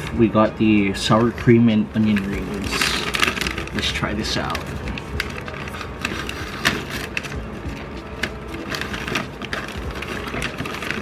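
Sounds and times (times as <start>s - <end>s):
plastic snack bag crinkling: 1.3s - 11.0s.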